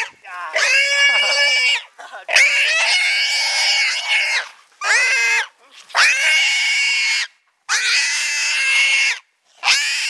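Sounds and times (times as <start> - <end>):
pig squealing in distress: 0.0 - 10.0.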